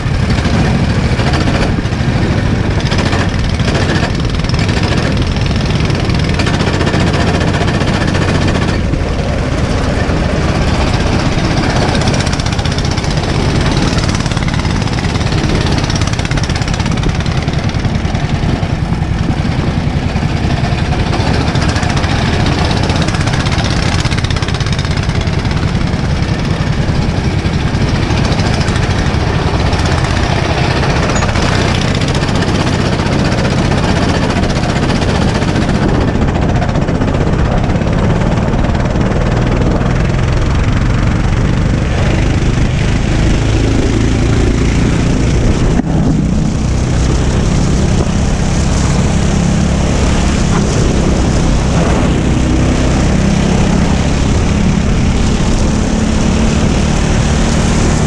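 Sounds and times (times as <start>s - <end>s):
go-kart engine at speed: 0.0s - 58.0s.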